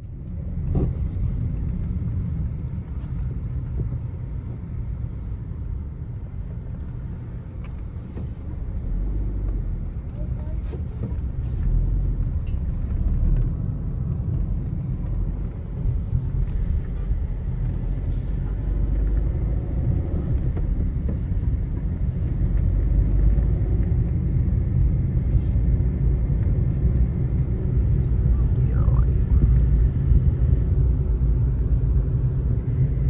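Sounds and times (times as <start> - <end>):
vehicle rumbling in motion: 0.0 - 33.0.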